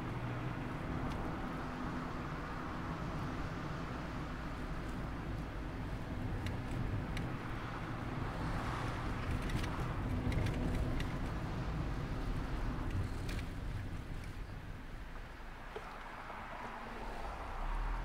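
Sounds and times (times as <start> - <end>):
car engine hum: 0.0 - 18.0
road and wind noise: 0.0 - 18.0.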